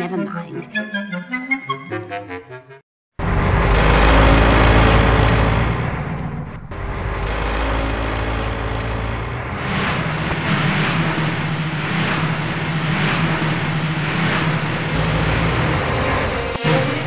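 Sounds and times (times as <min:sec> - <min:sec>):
car engine running: 0:03.2 - 0:17.0
rhythmic rushing noise: 0:03.2 - 0:17.0.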